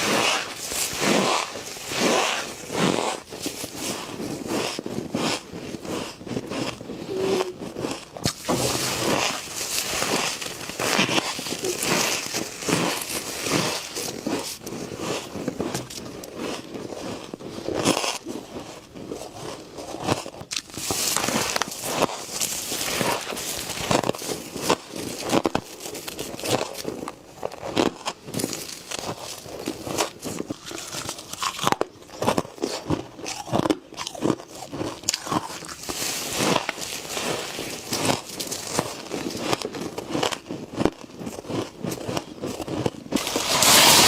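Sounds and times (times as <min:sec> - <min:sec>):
frost being chewed crunching: 0:00.0 - 0:44.0.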